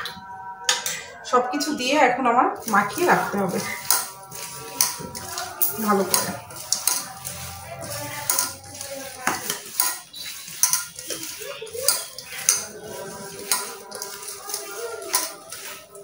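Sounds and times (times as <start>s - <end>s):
bangle clinking on metal bowl: 2.6s - 16.0s
hand mixing food in bowl: 2.6s - 16.0s.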